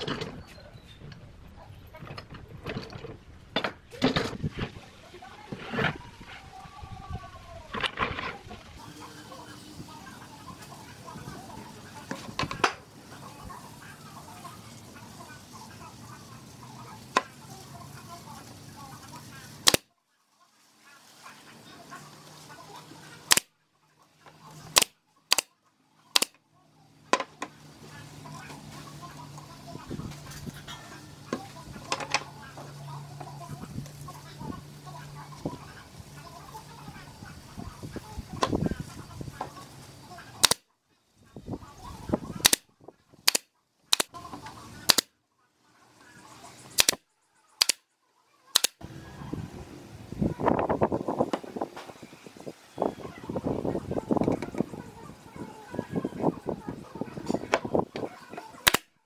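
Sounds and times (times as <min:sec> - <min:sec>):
low work noise: 0:00.0 - 0:19.8, 0:20.4 - 0:59.0.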